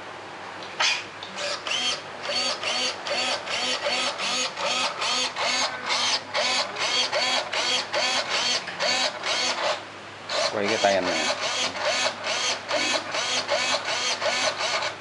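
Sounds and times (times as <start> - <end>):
small electric motor whirring: 1.4 - 15.0.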